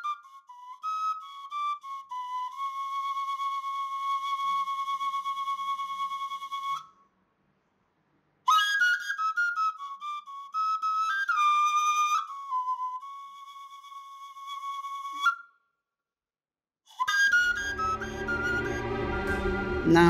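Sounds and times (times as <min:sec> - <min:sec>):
flute playing: 0:00.0 - 0:07.0, 0:08.5 - 0:15.6, 0:16.9 - 0:20.0.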